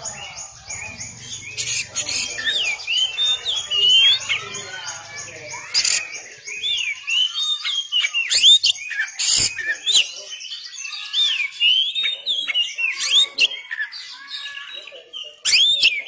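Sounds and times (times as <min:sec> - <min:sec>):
bird singing whistles and chirps: 0:00.0 - 0:16.0.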